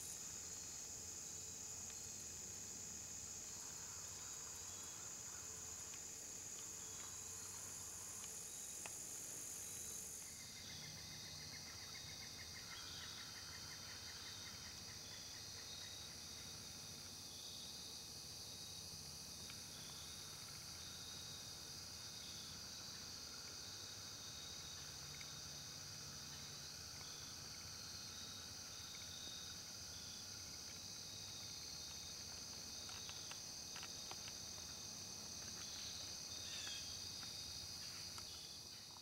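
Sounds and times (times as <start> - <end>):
crickets and insects trilling: 0.0 - 39.0.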